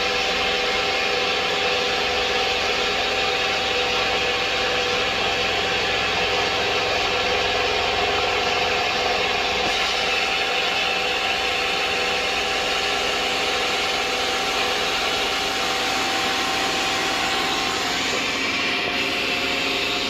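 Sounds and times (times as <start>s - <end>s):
machining center whine and hiss: 0.0s - 20.0s.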